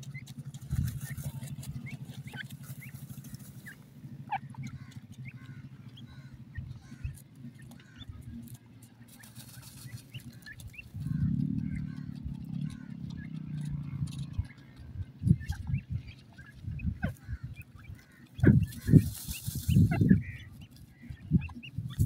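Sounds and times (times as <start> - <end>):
chicks peeping: 0.0 - 22.0
steady low hum: 0.0 - 22.0.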